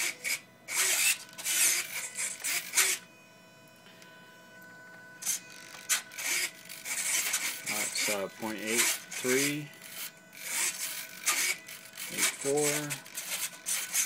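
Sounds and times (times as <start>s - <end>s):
servos whirring in rasping bursts: 0.0s - 3.3s, 4.6s - 14.0s
stalled servos buzzing: 0.0s - 14.0s.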